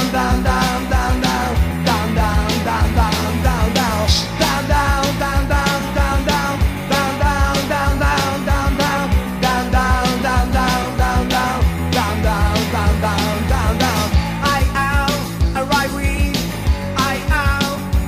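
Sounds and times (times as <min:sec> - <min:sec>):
electric guitar: 0:00.0 - 0:18.0
fast drum beat: 0:00.0 - 0:18.0.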